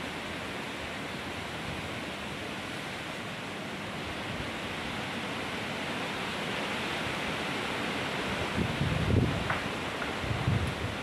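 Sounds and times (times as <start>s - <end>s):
strong wind rushing through trees: 0.0s - 11.0s.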